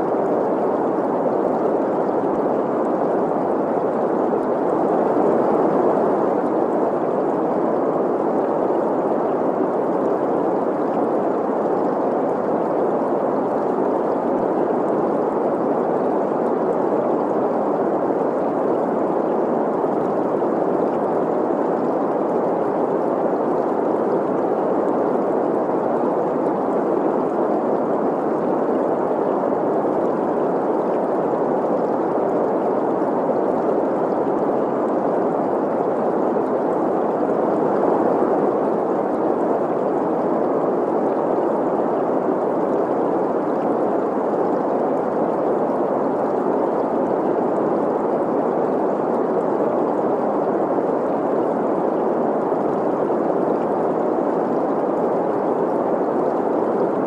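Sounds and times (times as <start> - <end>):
flowing stream: 0.0 - 57.0.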